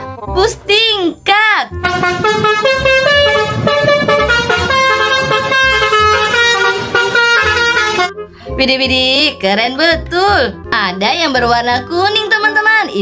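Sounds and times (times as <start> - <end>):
bouncy cartoon music: 0.0 - 13.0.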